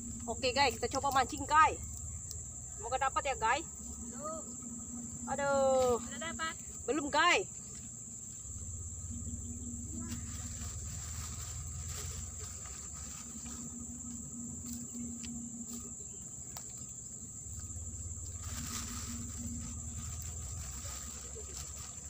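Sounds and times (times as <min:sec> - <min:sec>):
low rumble: 0:00.0 - 0:07.0, 0:08.4 - 0:16.5, 0:17.1 - 0:22.0
high-pitched insect chorus: 0:00.0 - 0:22.0.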